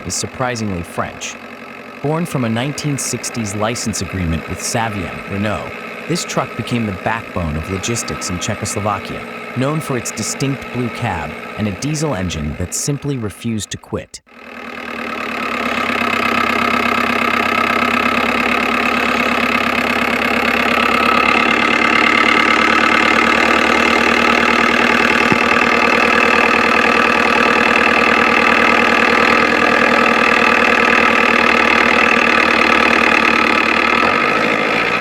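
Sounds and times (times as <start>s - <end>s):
truck diesel engine idling: 0.0s - 13.2s, 14.5s - 35.0s.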